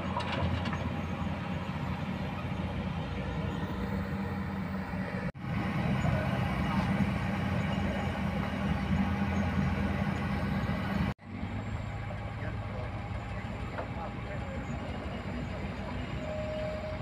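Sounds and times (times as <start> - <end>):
dump truck driving past: 0.0 - 17.0
excavator diesel engine running: 0.0 - 17.0.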